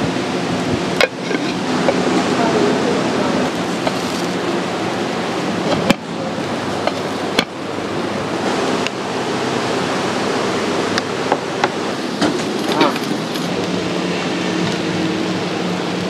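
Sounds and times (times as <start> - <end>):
flames hissing: 0.0 - 16.0
rice boiling: 0.0 - 16.0.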